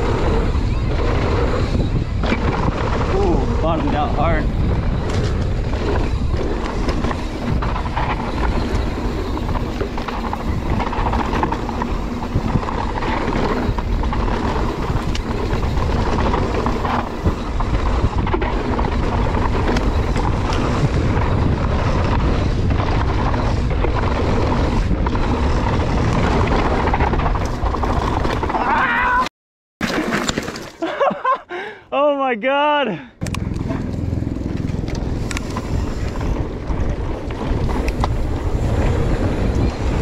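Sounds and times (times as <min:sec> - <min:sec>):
wind buffeting microphone: 0:00.0 - 0:28.8, 0:33.2 - 0:40.0
bike knocking and rattling: 0:00.0 - 0:29.2, 0:33.2 - 0:40.0
tyres rumbling over dirt: 0:00.0 - 0:29.2, 0:29.8 - 0:31.2, 0:33.2 - 0:40.0.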